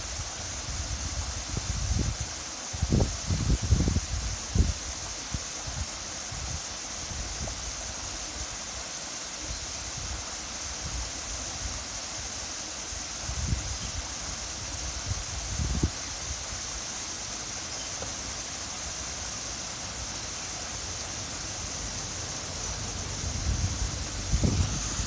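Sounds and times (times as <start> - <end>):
waterfall rushing: 2.3 - 25.0.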